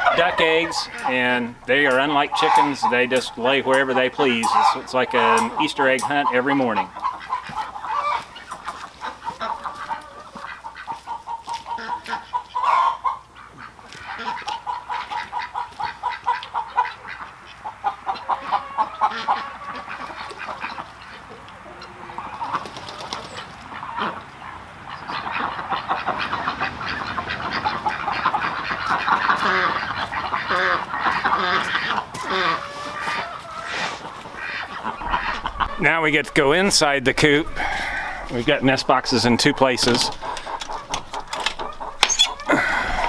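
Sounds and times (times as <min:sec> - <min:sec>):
chickens calling: 0:00.0 - 0:43.0
ducks calling: 0:00.0 - 0:43.0.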